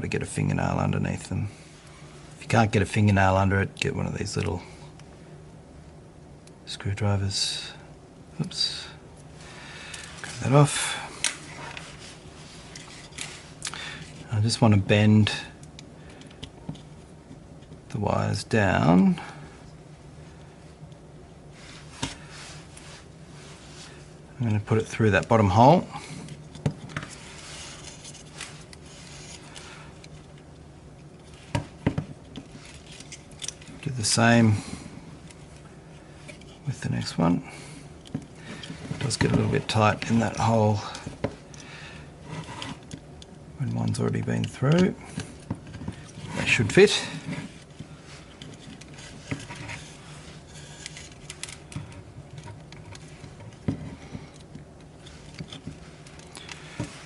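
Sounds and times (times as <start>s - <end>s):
faint low hum: 0.0s - 57.0s
wires rubbing and clicking: 8.5s - 57.0s.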